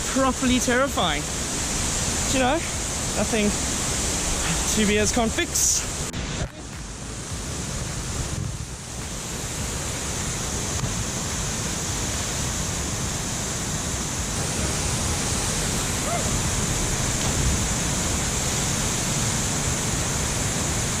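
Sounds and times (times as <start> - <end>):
waterfall pouring and splashing: 0.0 - 21.0.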